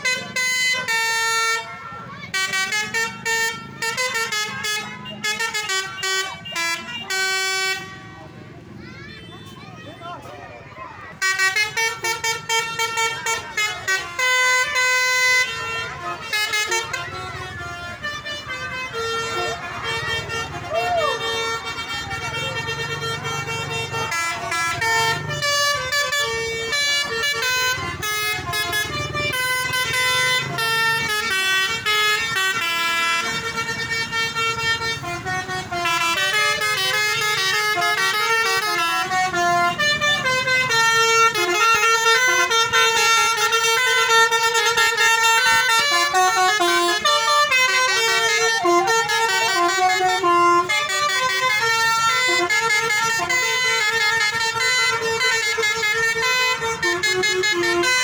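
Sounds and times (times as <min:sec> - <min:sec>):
musical air horns: 0:00.0 - 0:08.4, 0:11.1 - 0:58.0.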